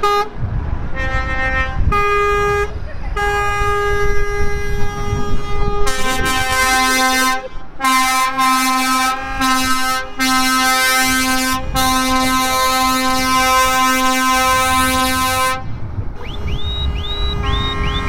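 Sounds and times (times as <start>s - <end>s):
lower-pitched truck horn blasts: 0.0s - 18.0s
truck air horn held: 0.0s - 18.0s.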